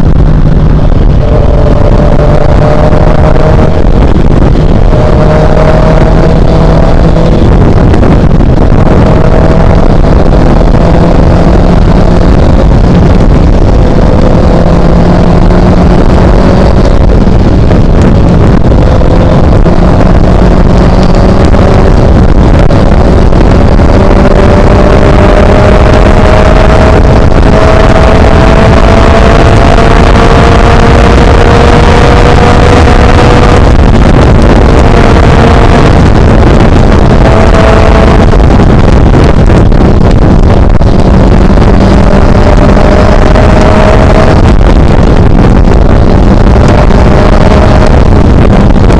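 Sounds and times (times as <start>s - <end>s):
motorcycle engine: 0.0s - 48.9s
wind rumble on microphone: 0.0s - 48.9s.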